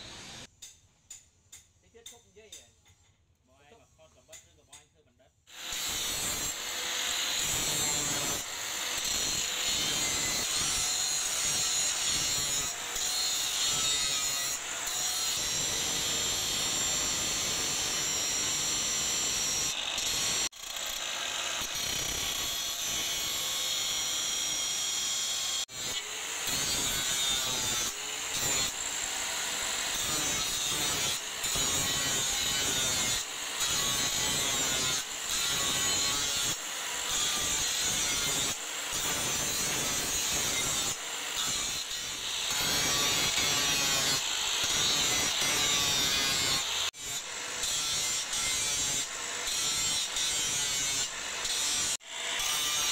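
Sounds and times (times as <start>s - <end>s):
angle grinder grinding steel: 0.0s - 0.5s, 5.5s - 52.9s.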